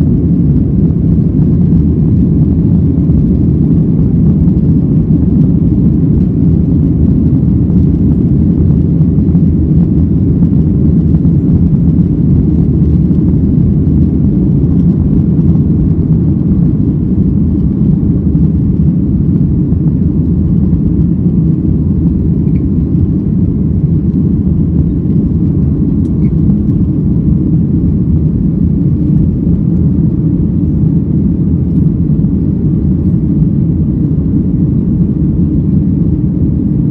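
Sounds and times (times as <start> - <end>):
jet engines rumbling in cabin: 0.0 - 36.9.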